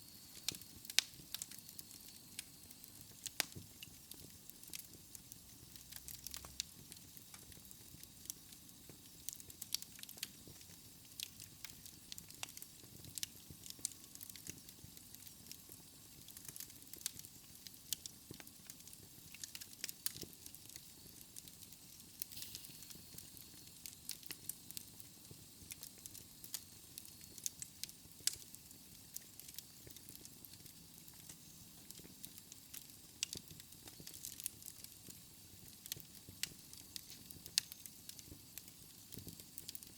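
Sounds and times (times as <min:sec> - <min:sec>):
soft fire hiss: 0:00.0 - 0:39.9
wood fire crackling and popping: 0:00.0 - 0:39.9.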